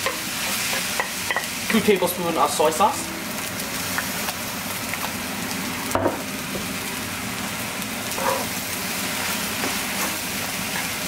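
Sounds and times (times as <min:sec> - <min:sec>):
fried rice sizzling in a skillet: 0:00.0 - 0:11.0.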